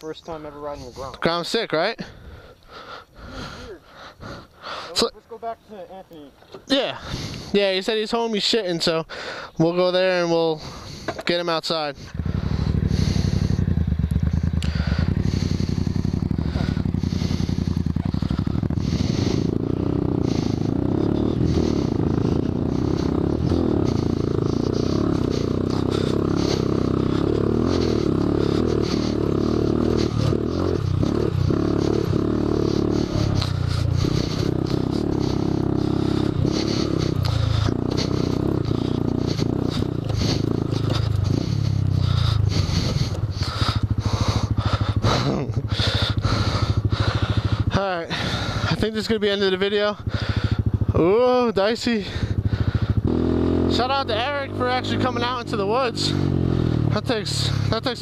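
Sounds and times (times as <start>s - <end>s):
motorcycle engine running: 6.5s - 8.3s, 9.3s - 58.0s.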